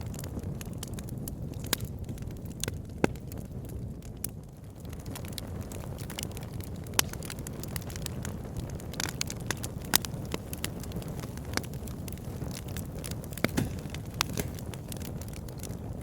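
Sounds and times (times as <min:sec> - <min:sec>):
fire crackling in fireplace: 0:00.0 - 0:16.0
low rumble of fire: 0:00.0 - 0:16.0.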